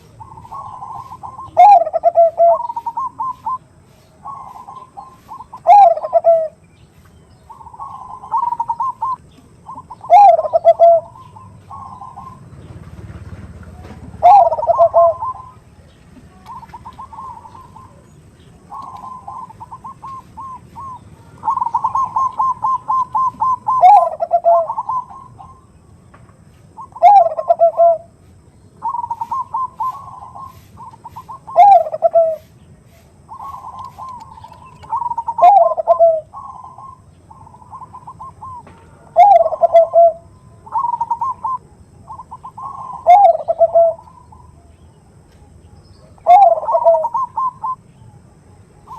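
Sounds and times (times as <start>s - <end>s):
doves cooing: 0.0s - 25.8s, 26.7s - 48.9s.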